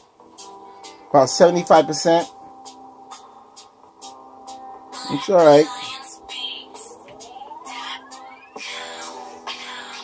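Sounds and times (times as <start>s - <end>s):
sustained notes from laptop speakers: 0.0s - 10.0s.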